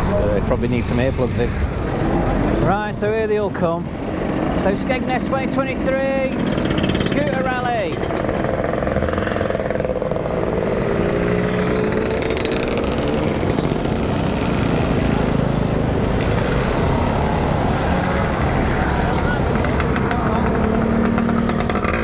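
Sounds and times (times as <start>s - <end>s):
scooter engines passing: 0.0s - 22.0s.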